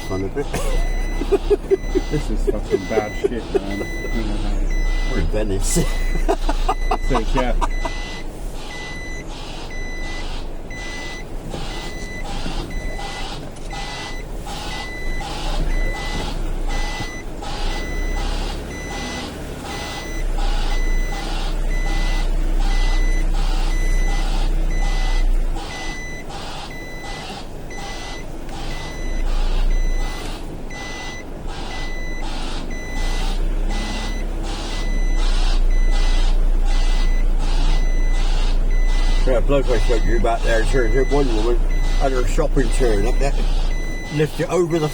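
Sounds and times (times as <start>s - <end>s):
lorry engine running: 0.0s - 44.9s
reversing alarm beeping: 0.0s - 44.9s.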